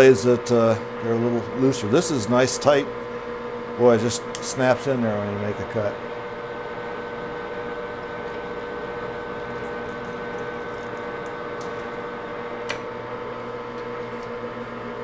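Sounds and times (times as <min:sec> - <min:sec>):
lathe humming: 0:00.0 - 0:15.0.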